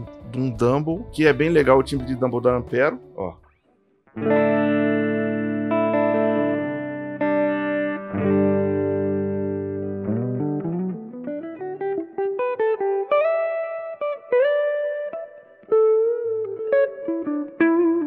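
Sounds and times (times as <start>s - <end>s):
electric guitar playing: 0.0s - 18.0s.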